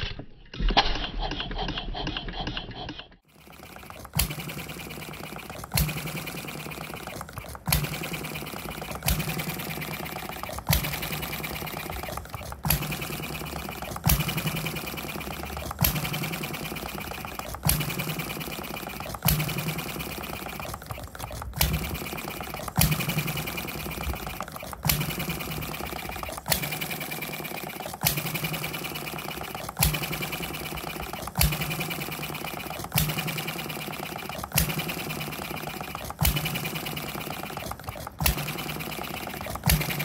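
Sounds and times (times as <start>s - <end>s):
engine parts clicking: 0.0s - 40.0s.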